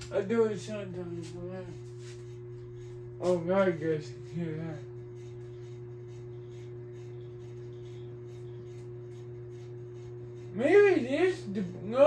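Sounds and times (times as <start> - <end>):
ceiling fan motor humming: 0.0 - 12.0.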